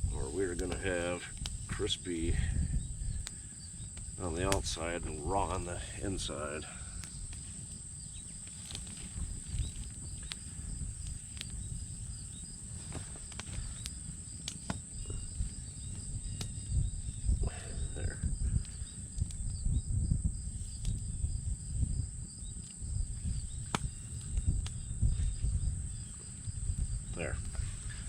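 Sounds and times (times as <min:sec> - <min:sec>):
cooking fire crackling: 0:00.0 - 0:28.0
insects droning: 0:00.0 - 0:28.0.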